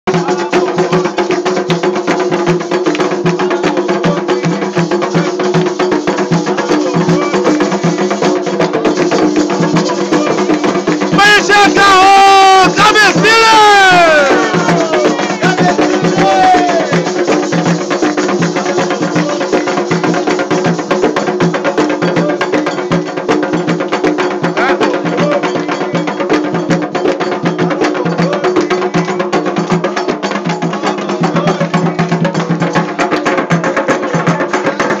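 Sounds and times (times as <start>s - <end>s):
fast drum rhythm: 0.0s - 35.0s
bell or wood-block strokes: 0.1s - 12.0s, 12.6s - 35.0s.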